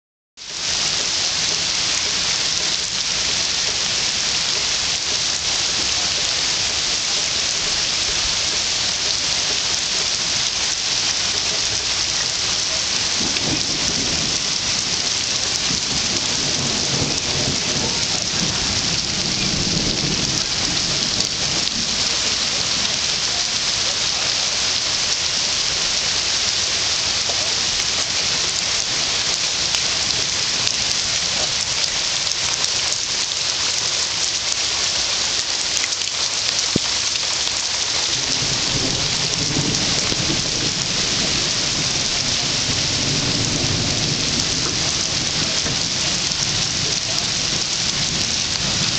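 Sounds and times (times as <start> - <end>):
rain falling: 0.4 - 48.9.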